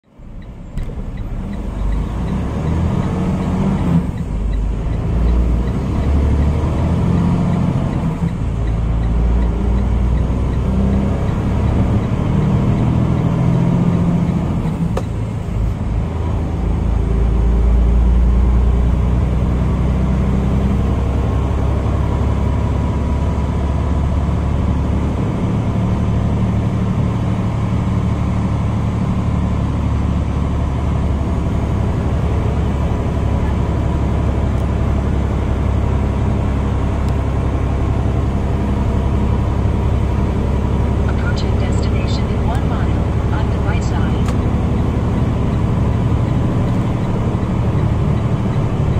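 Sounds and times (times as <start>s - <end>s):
road noise: 0.0s - 48.9s
truck diesel engine rumble: 0.0s - 48.9s.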